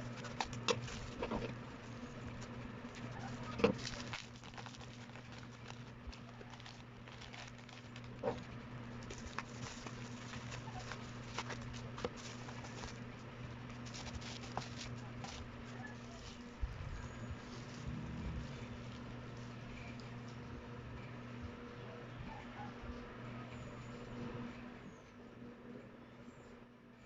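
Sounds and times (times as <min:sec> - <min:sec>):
low mains hum: 0:00.0 - 0:27.0.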